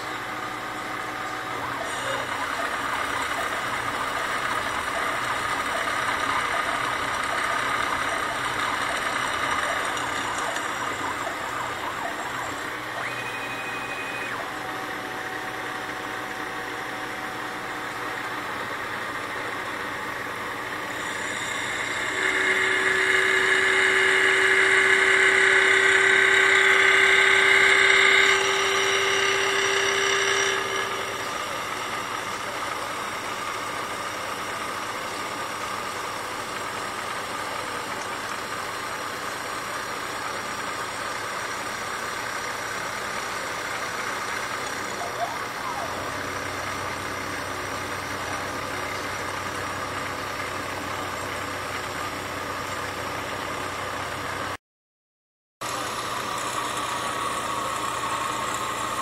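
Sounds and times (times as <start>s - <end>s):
milling machine cutting metal: 0.0s - 54.5s, 55.6s - 59.0s.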